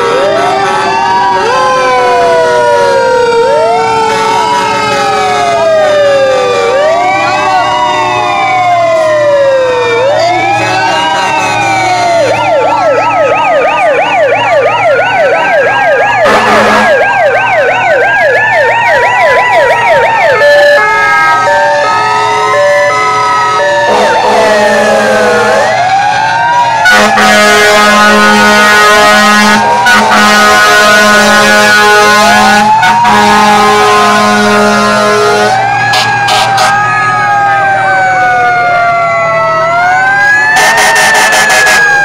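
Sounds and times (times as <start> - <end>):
fire truck air horns blasting: 0.0 - 14.2, 14.9 - 17.8, 19.3 - 42.0
fire engine sirens wailing: 0.0 - 42.0
siren fast yelp: 0.0 - 42.0.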